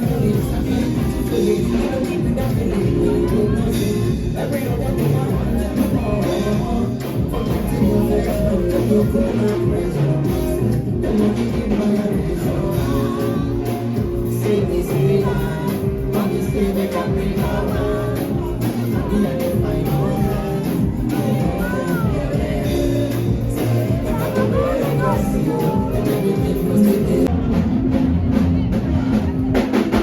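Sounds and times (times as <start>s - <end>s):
loud music with beat: 0.0s - 30.0s
person singing: 0.0s - 30.0s.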